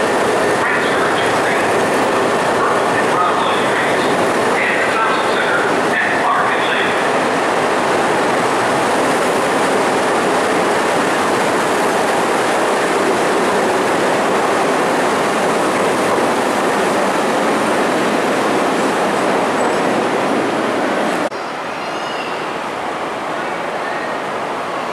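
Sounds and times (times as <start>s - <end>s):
elevated train wheels and motors: 0.0s - 24.9s.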